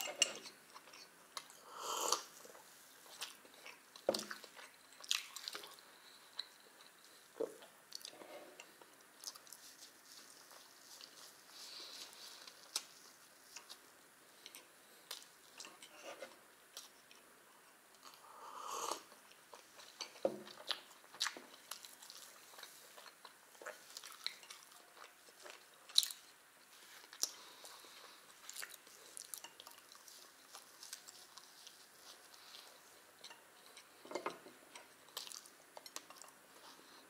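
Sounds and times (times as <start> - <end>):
person chewing: 0.0 - 13.8, 18.0 - 37.0.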